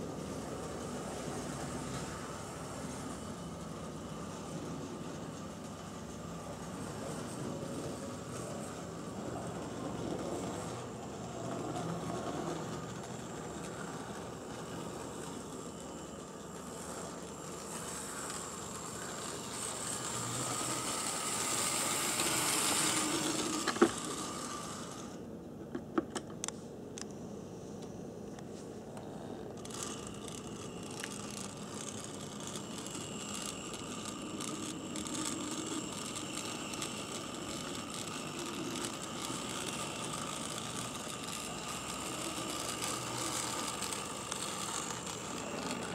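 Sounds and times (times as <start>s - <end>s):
wheels rattling on rail: 0.0s - 25.2s, 29.6s - 45.9s
model train motor whine: 0.0s - 25.3s, 29.0s - 45.9s.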